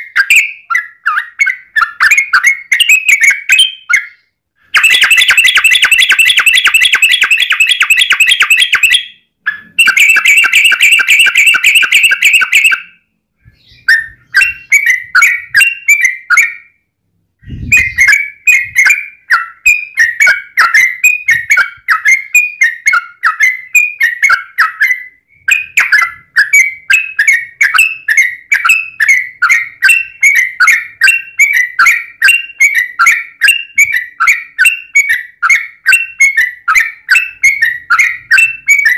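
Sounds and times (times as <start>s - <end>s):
bulbul song: 0.0s - 38.9s.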